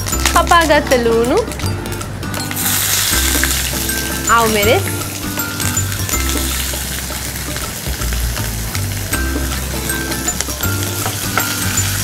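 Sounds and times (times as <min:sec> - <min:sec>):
low background music: 0:00.0 - 0:12.0
onions frying in oil: 0:00.0 - 0:12.0.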